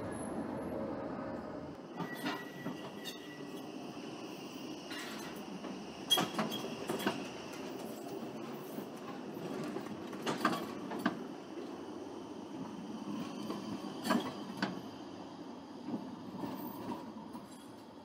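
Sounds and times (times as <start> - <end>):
tram running on rails: 0.0 - 18.0.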